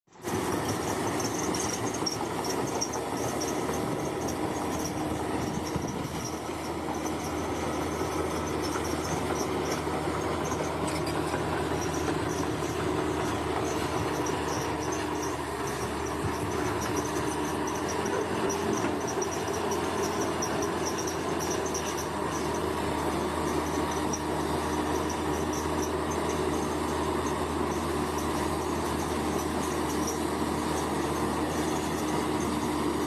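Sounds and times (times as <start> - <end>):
construction machine engine running: 0.1 - 33.0
insects chirping: 1.2 - 32.6.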